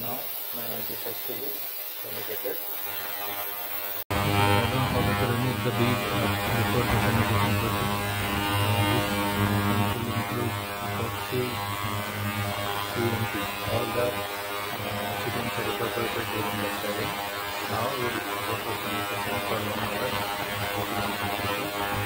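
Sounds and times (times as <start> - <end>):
ultrasonic bath buzzing: 0.0 - 22.0.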